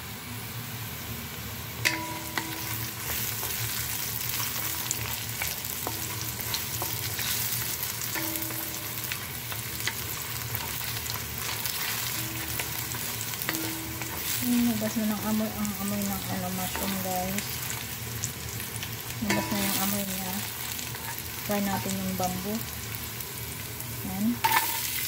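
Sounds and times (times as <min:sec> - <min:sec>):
mushrooms sizzling in oil: 0:00.0 - 0:25.0.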